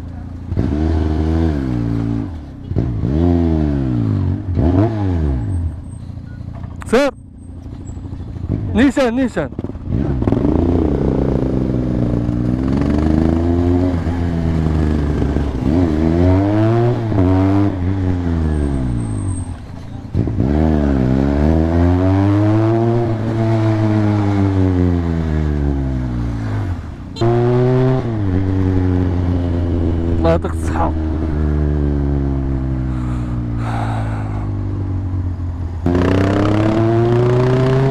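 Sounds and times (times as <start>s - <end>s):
motorcycle engine revving: 0.0s - 6.0s, 6.6s - 37.9s.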